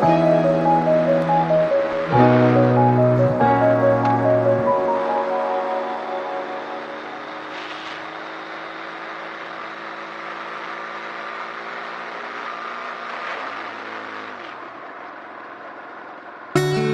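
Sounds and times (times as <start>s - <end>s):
wind and road noise: 0.0s - 16.6s
motorcycle engine running: 0.0s - 16.9s.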